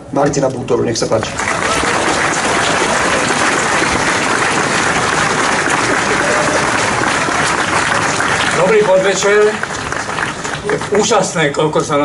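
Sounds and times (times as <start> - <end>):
crowd applauding: 1.2 - 11.6.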